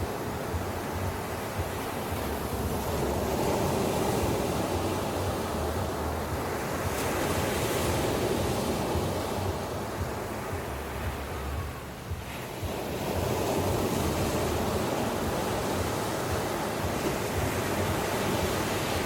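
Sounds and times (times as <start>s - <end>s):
ocean waves breaking on beach: 0.0s - 19.0s
wind rumble on microphone: 0.0s - 19.0s.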